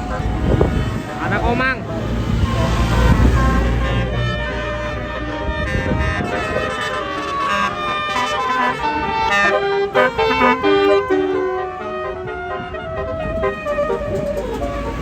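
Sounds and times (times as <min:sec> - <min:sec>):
low engine rumble: 0:00.0 - 0:07.0, 0:09.1 - 0:15.0
bus horn playing a tune: 0:00.0 - 0:15.0.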